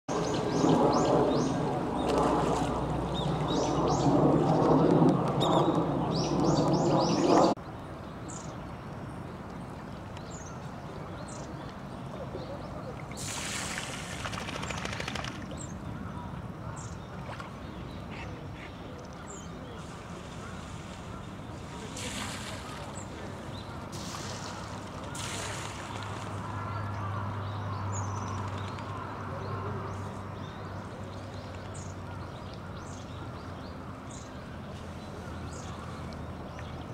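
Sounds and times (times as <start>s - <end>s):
birds chirping: 0.1s - 36.9s.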